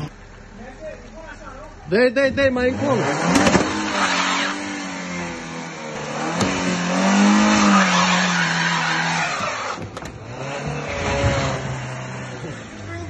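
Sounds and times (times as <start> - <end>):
tyres skidding and squealing: 0.0 - 13.0
car engine revving: 2.3 - 13.0.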